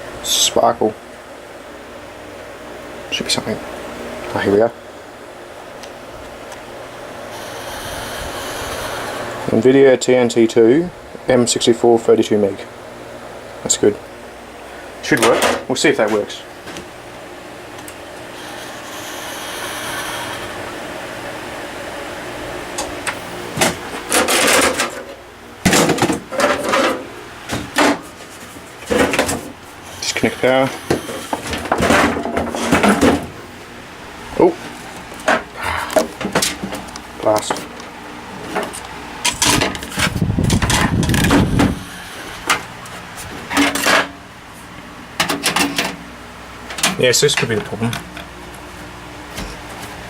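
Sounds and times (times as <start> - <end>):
computer fan whirring: 0.0 - 50.0.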